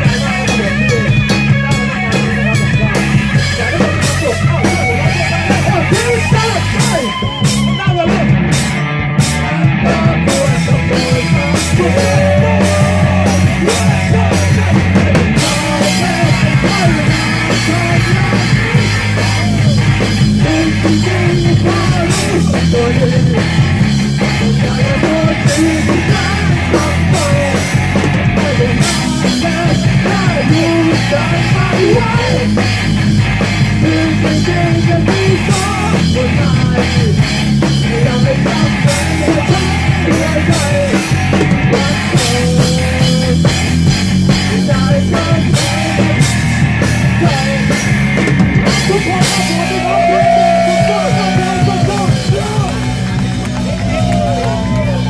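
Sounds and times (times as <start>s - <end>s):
drum kit: 0.0s - 55.0s
electric guitar: 0.0s - 55.0s
low bass notes: 0.0s - 55.0s.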